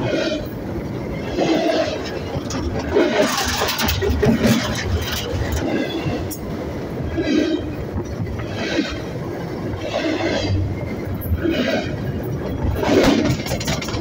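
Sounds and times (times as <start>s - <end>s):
train cars rumbling past: 0.0s - 14.0s.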